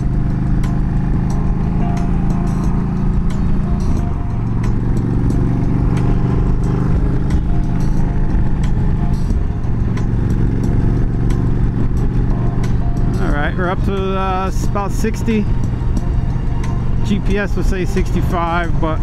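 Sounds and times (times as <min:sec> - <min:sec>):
motorcycle engine running: 0:00.0 - 0:19.0
wind at highway speed: 0:00.0 - 0:19.0.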